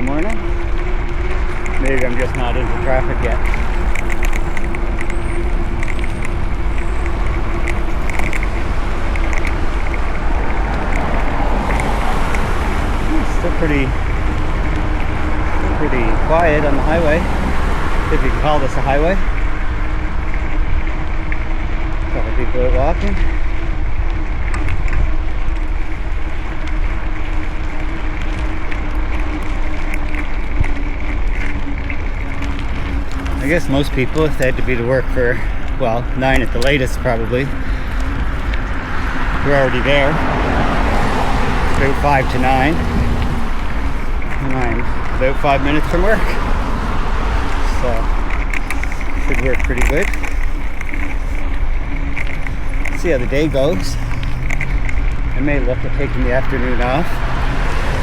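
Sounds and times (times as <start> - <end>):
small ticks: 0.0 - 15.7, 19.3 - 22.2, 23.1 - 55.4
steady hum: 0.0 - 56.4
road noise: 0.0 - 58.0
wind buffeting microphone: 0.0 - 58.0.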